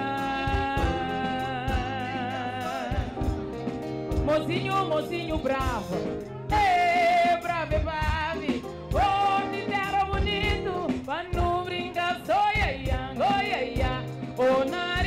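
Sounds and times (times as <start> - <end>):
person singing: 0.0 - 3.6, 4.2 - 15.0
live band playing: 0.0 - 15.0.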